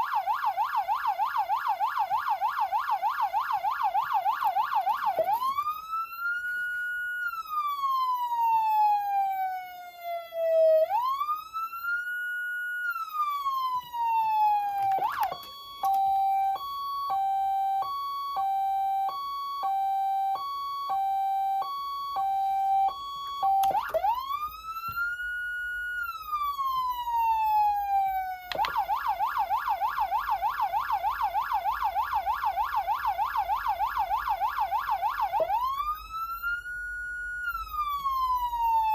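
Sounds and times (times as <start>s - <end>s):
hi-lo siren: 0.0s - 38.9s
police siren wail: 0.0s - 38.9s
rapid siren yelp: 0.0s - 38.9s.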